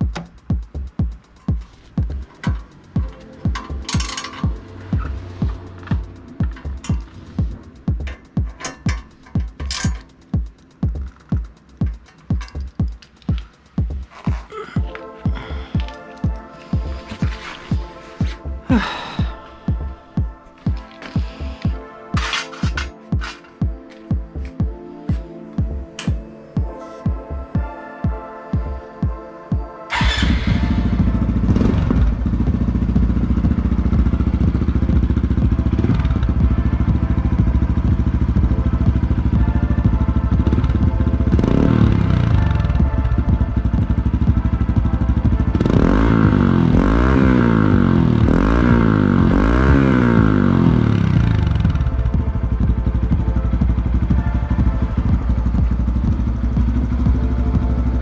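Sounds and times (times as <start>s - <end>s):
motorcycle engine idling and revving: 0.0s - 24.9s, 29.9s - 58.0s.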